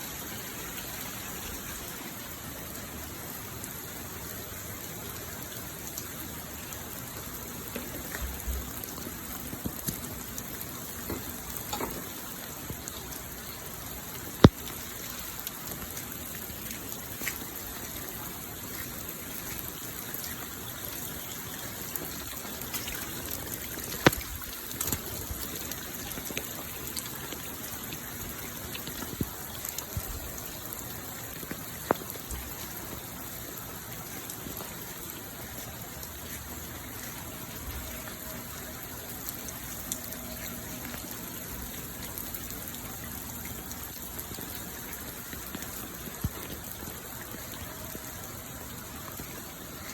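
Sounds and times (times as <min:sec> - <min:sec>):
heavy rain hiss: 0:00.0 - 0:49.9.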